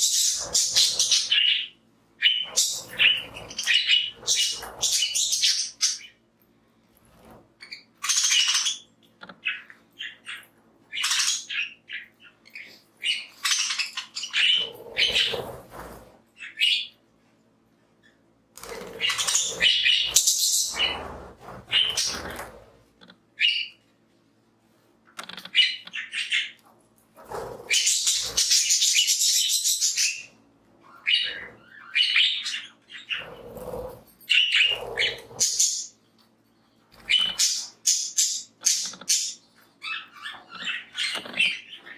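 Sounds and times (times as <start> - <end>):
budgerigars chirping and chattering: 0.0 - 6.2, 7.2 - 17.0, 18.6 - 22.8, 23.4 - 23.8, 25.2 - 36.0, 36.9 - 41.9.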